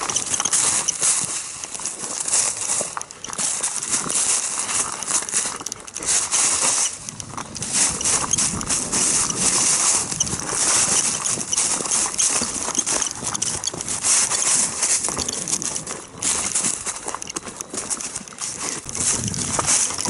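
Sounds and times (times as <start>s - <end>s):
footsteps on dry leaves: 0.0s - 20.0s.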